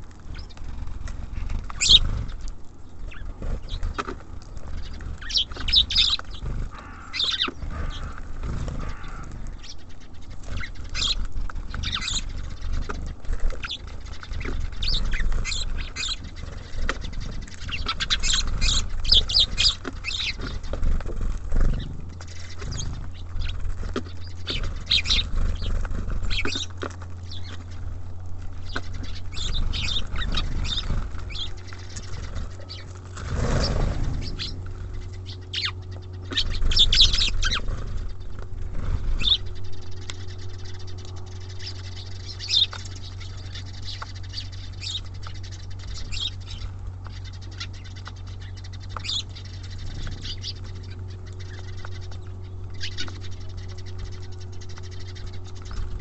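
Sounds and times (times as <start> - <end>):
small birds chirping: 0.0 - 56.0
steady low hum: 0.0 - 56.0.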